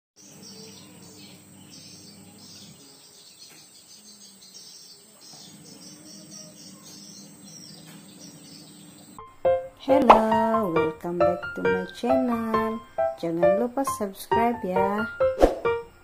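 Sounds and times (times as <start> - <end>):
insects chirping: 0.2 - 16.0.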